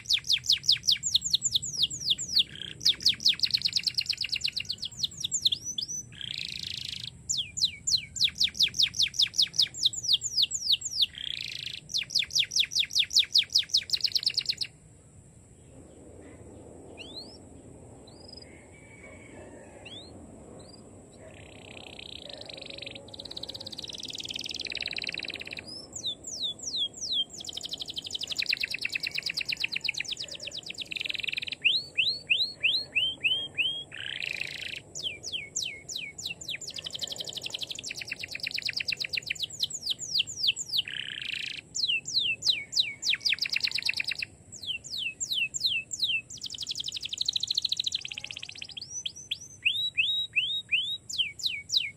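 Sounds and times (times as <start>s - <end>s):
canary singing trills: 0.0s - 14.8s, 16.2s - 51.9s.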